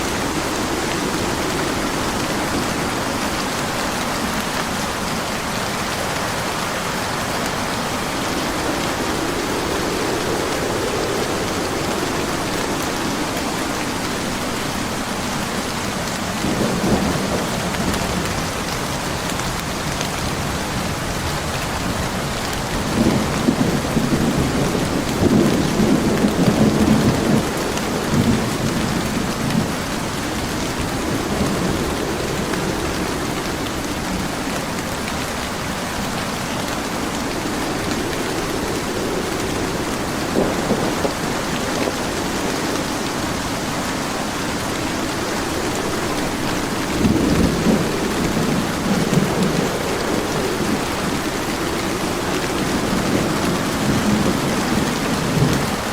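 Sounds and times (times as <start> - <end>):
heavy rain: 0.0 - 55.9
thunder rumbling: 0.0 - 55.9.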